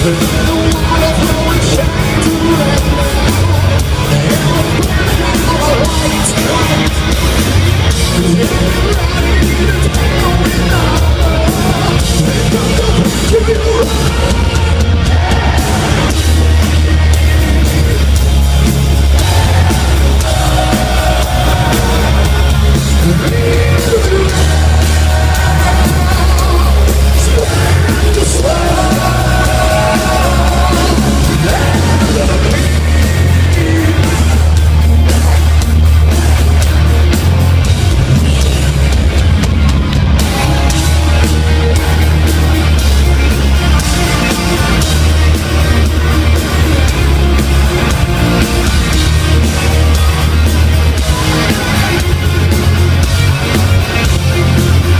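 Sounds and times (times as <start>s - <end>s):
heavy metal band playing: 0.0s - 54.9s
shouted lead vocals: 0.0s - 54.9s.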